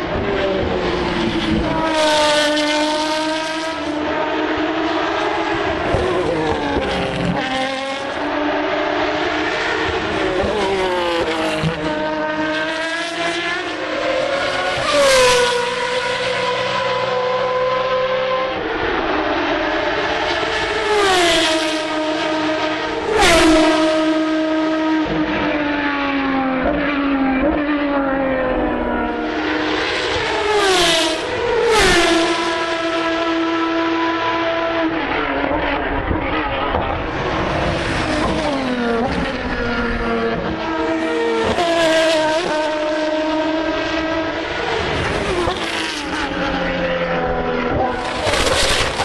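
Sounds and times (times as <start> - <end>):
racing car engines passing: 0.0 - 49.0.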